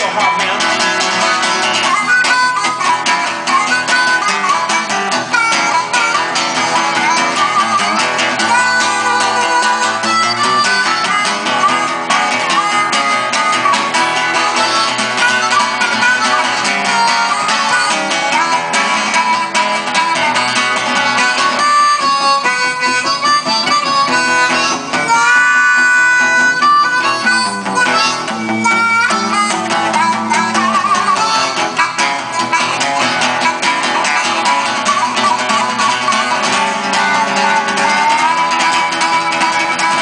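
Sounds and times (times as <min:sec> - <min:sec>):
blues harmonica: 0:00.0 - 0:40.0
guitar accompaniment: 0:00.0 - 0:40.0.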